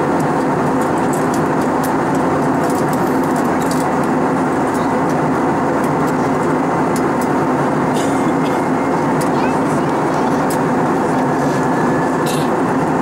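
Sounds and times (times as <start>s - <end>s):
airplane cabin roar: 0.0s - 13.0s.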